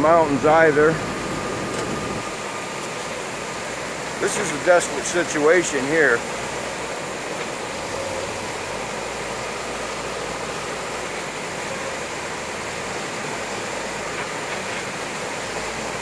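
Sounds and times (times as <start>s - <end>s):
backhoe diesel engine: 0.0s - 5.1s, 7.4s - 16.0s
floodwater rushing: 0.0s - 16.0s.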